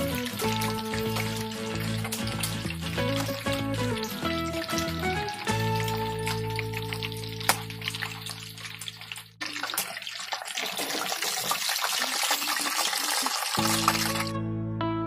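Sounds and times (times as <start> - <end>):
deep-frying in hot oil: 0.0 - 14.3.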